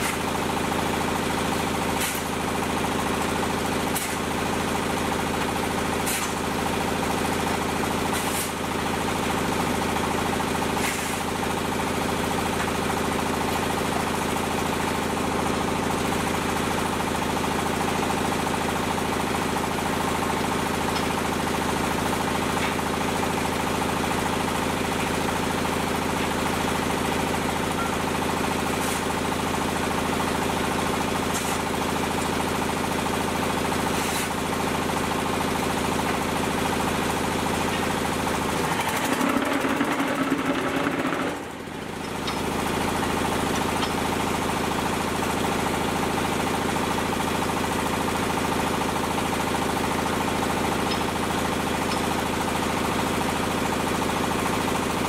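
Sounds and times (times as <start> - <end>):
diesel engine running: 0.2 - 55.0.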